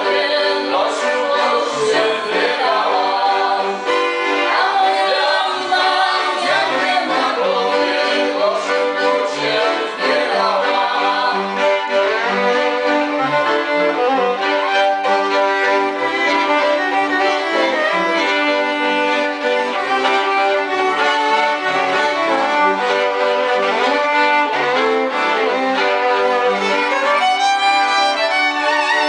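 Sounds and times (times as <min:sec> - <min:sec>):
fiddles playing folk tune: 0:00.0 - 0:29.0
low bowed string instrument: 0:00.0 - 0:29.0.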